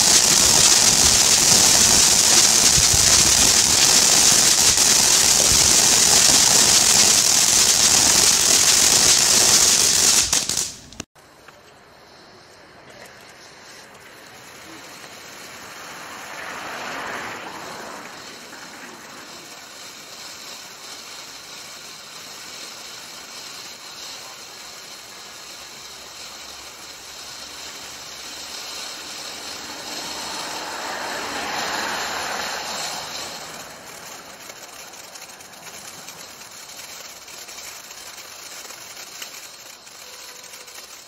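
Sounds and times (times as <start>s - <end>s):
firework fountain hissing: 0.0s - 41.0s.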